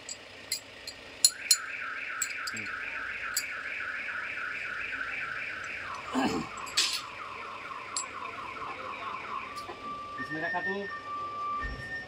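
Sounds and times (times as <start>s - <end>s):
electronic alarm warbling: 1.3s - 11.1s.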